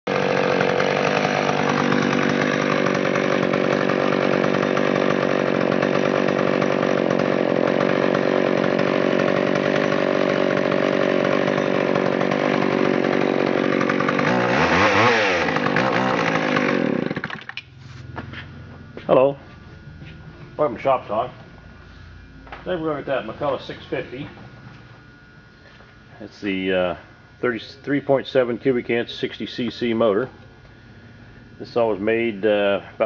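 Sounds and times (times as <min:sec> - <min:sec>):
chainsaw running: 0:00.1 - 0:33.0.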